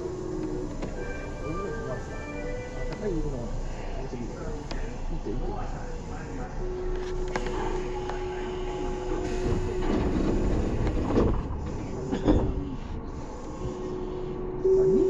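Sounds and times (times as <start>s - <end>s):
train track rumble: 0.0s - 15.0s.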